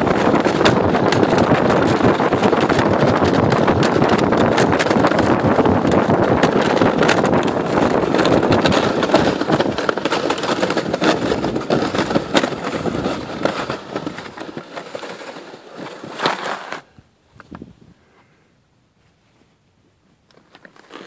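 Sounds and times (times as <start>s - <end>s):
sled runners scraping over icy snow: 0.0s - 17.0s, 20.4s - 21.0s.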